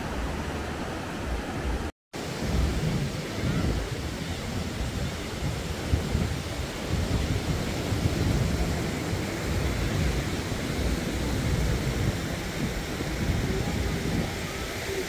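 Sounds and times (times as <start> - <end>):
surf rushing: 0.0 - 15.0
wind buffeting microphone: 0.0 - 15.0.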